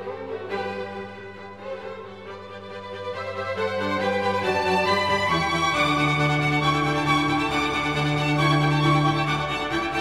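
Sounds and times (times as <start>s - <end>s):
bowed strings holding long notes: 0.0s - 10.0s.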